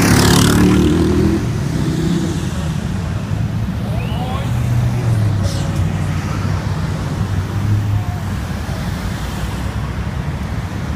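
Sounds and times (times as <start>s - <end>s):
road traffic engine hum: 0.0s - 10.9s.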